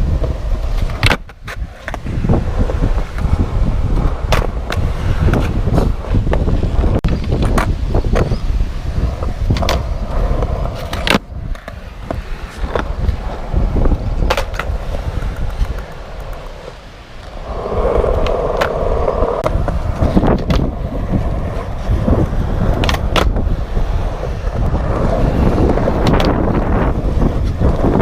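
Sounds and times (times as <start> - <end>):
skateboard grinding scrape: 0.0 - 28.0
skateboard tail clacks: 0.0 - 28.0
skateboard wheels rolling on concrete: 0.0 - 28.0
wind buffeting microphone: 0.0 - 28.0.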